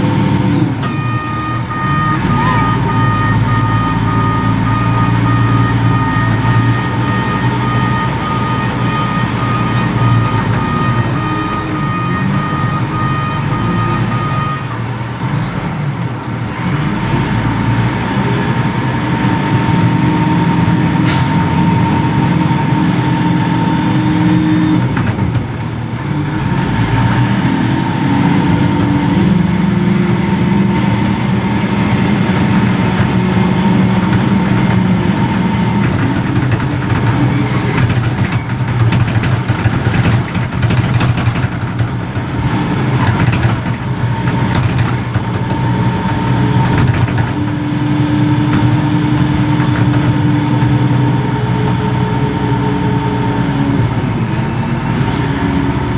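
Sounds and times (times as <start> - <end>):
diesel engine working: 0.0 - 55.9.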